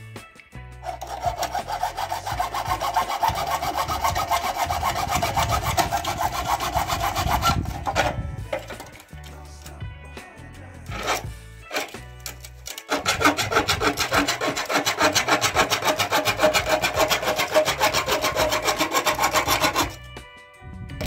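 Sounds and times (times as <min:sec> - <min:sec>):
hacksaw cutting plastic: 0:00.8 - 0:09.2, 0:10.9 - 0:20.0.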